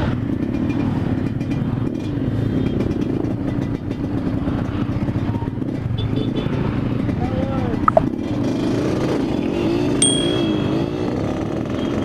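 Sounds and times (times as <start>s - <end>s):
motorcycle engine at full throttle: 0.0s - 12.0s.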